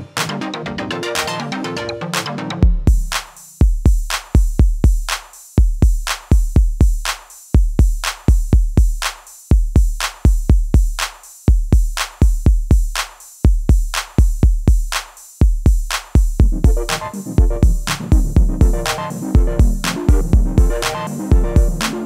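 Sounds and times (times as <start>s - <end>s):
drum machine beat: 1.1s - 1.4s, 2.1s - 22.0s.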